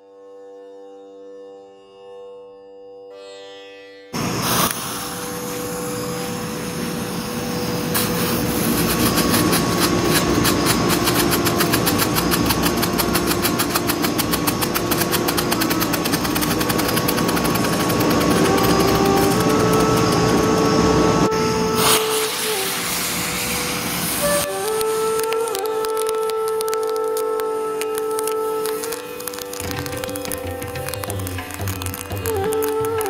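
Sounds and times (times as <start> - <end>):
firework hissing: 4.2 - 33.0
crackle of strobe pops: 4.4 - 19.9, 21.8 - 33.0.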